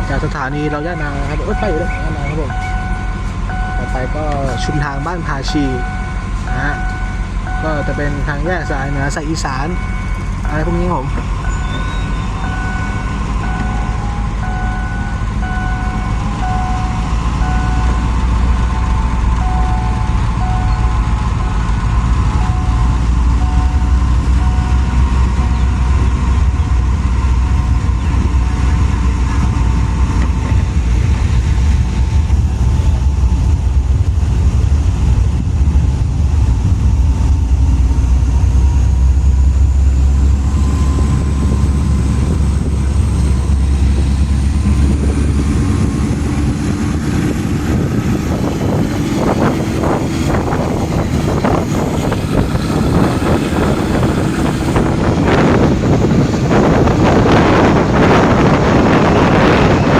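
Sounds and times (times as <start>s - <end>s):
diesel train engine rumble: 0.0s - 59.9s
high whine rising in pitch: 0.0s - 59.9s.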